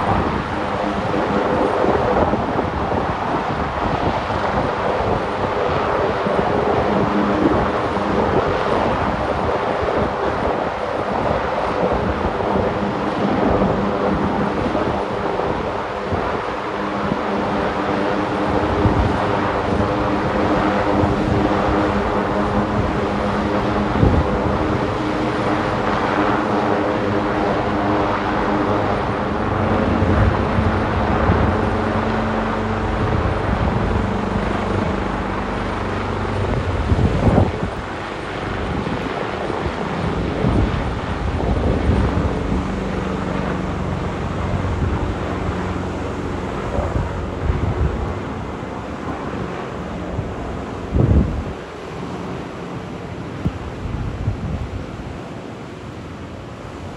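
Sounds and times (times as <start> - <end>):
helicopter rotors and engines: 0.0 - 56.9
wind on microphone: 0.0 - 56.9.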